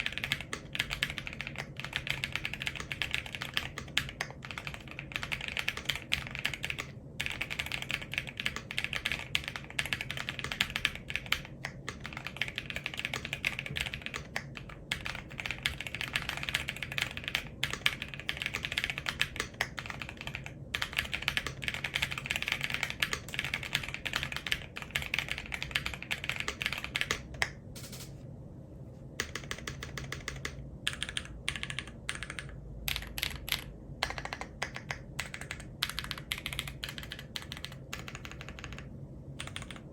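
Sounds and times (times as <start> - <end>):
mechanical keyboard typing: 0.0 - 28.1, 29.2 - 39.9.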